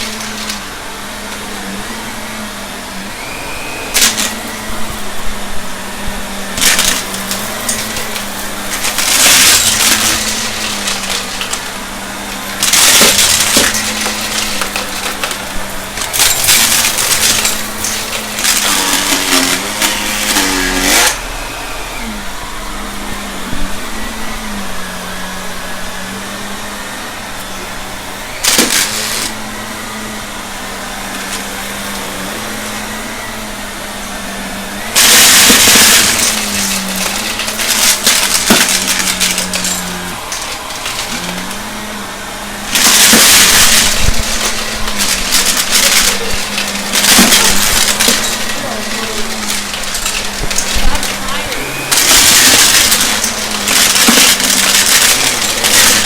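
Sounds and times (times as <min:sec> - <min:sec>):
debris rattling up vacuum hose: 0:00.0 - 0:56.0
vacuum cleaner motor hum: 0:00.0 - 0:56.0.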